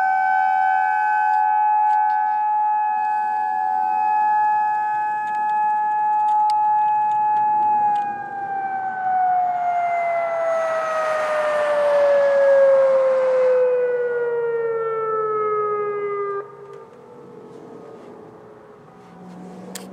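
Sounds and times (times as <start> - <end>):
warning siren winding down: 0.0 - 19.9.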